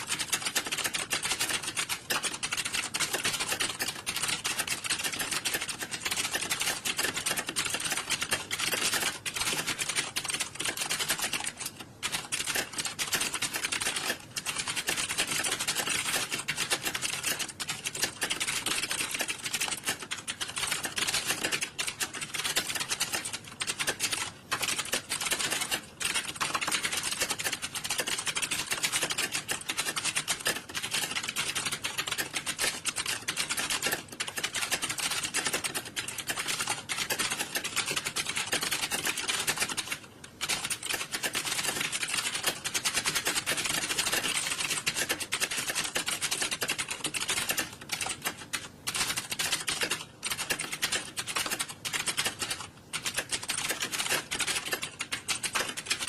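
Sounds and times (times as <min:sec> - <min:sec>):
keyboard typing clatter: 0:00.0 - 0:56.0.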